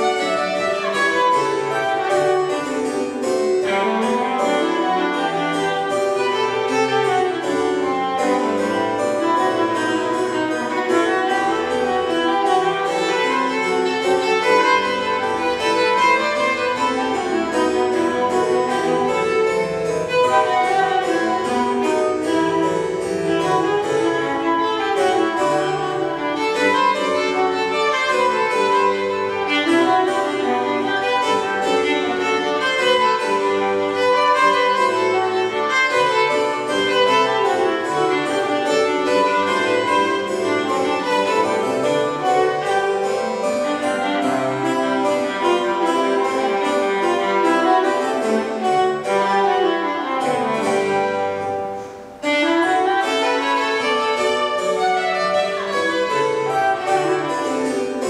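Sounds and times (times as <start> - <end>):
bowed viola: 0.0 - 58.0
pipe organ playing: 0.0 - 58.0.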